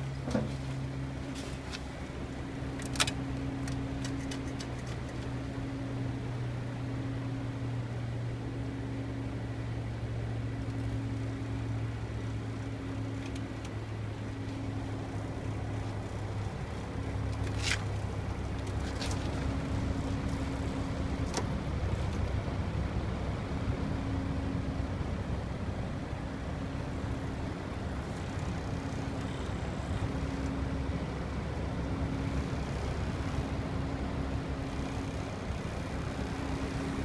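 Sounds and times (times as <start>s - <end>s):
heat pump humming: 0.0s - 37.0s.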